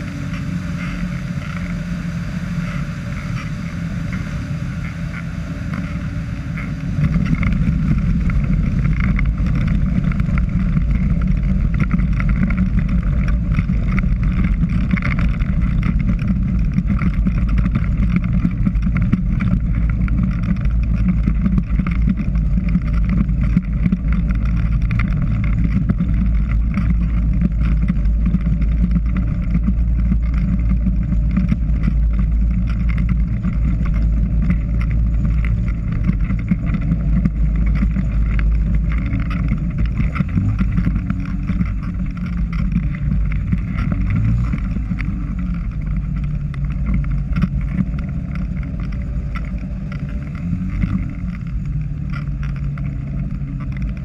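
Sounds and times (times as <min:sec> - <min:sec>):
knocks from rough ground: 0:00.0 - 0:54.0
propeller engine running: 0:00.0 - 0:54.0.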